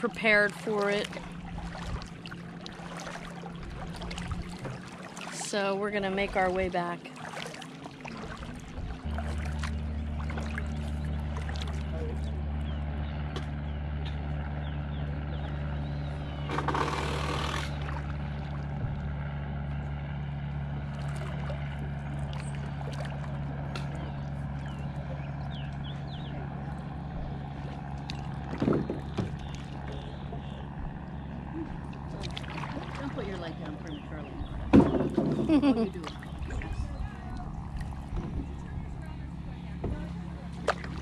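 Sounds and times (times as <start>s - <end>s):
water splashing: 0.0s - 13.3s, 15.4s - 41.0s
small boat motor droning: 0.0s - 41.0s.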